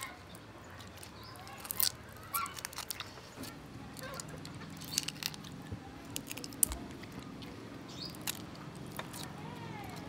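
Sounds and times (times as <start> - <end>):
prawn shells cracking: 0.0 - 10.0.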